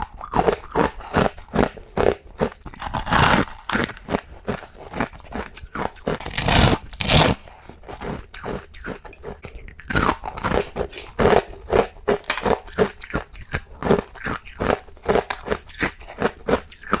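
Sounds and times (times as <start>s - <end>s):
person chewing hard ice: 0.0s - 17.0s.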